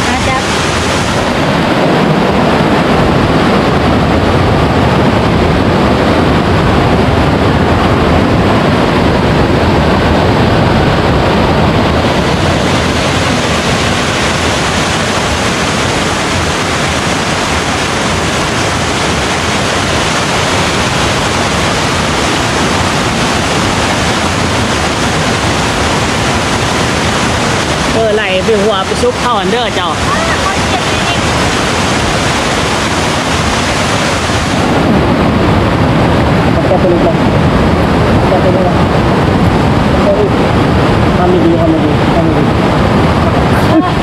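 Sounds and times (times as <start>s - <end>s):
stream water rushing over rocks: 0.0s - 44.0s.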